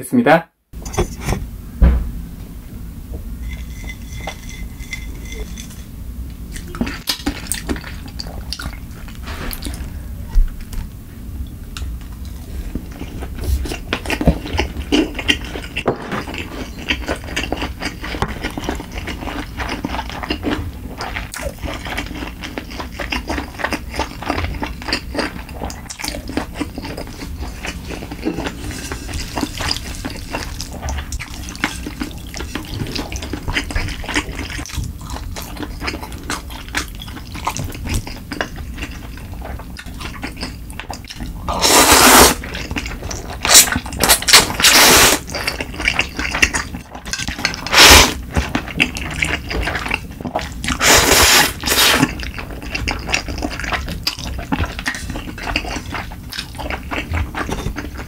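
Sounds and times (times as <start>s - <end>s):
wet chewing and smacking: 6.5s - 10.9s, 11.8s - 58.0s.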